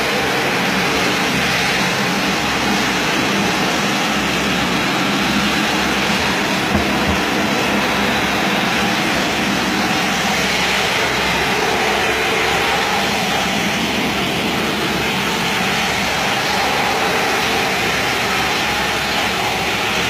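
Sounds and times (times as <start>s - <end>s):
water spray and vacuum roar: 0.0s - 20.0s.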